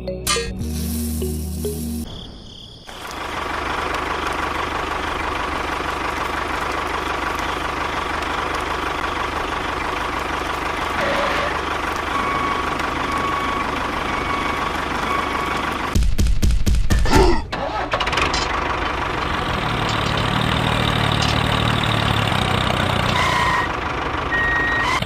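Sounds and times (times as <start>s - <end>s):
tractor engine running: 2.9s - 25.0s.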